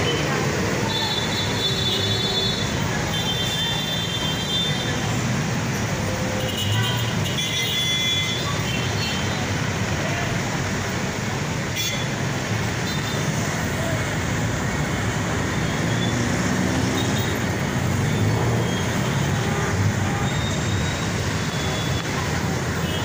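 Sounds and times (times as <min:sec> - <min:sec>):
traffic jam noise: 0:00.0 - 0:23.0.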